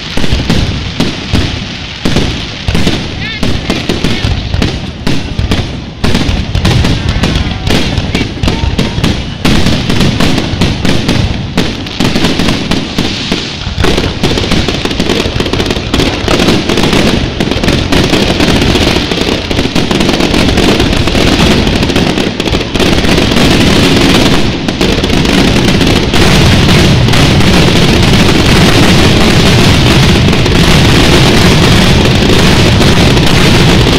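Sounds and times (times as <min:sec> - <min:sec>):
fireworks booming: 0:00.0 - 0:33.9.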